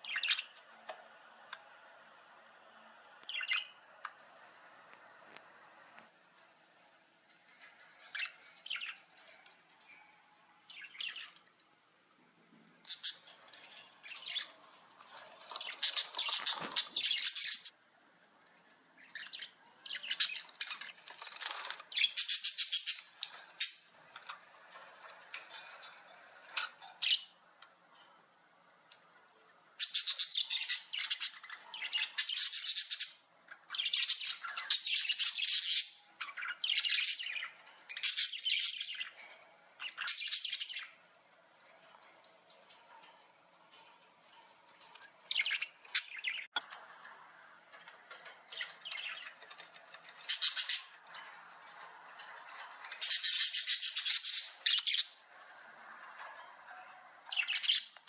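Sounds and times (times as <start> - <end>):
bird chirping in rapid trills: 0.0 - 0.8, 7.5 - 11.6, 12.7 - 17.8, 19.0 - 27.4, 29.8 - 58.0.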